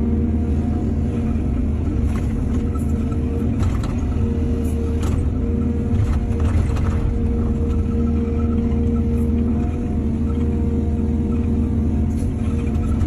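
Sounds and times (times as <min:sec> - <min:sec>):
excavator diesel engine rumbling: 0:00.0 - 0:13.0.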